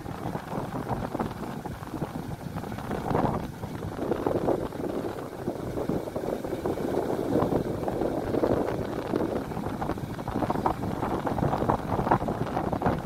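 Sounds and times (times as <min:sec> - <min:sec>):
motorcycle running: 0:00.0 - 0:13.0
wind buffeting microphone: 0:00.0 - 0:13.0.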